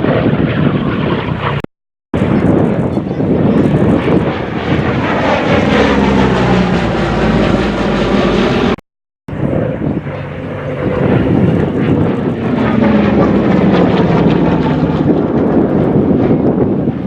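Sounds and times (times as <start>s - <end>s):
plane engine drone flying over: 0.0s - 17.0s.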